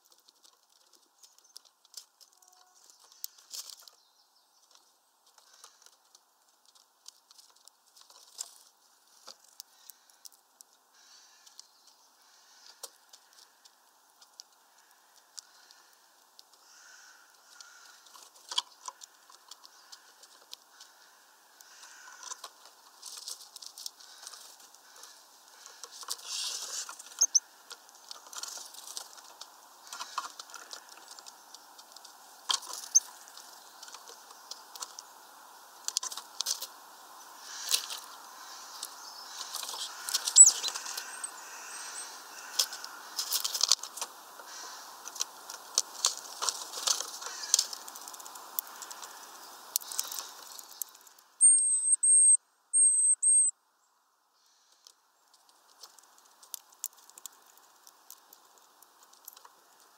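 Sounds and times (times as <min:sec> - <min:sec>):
beaks pecking and cracking seeds: 0:00.0 - 0:53.6, 0:54.4 - 0:59.9.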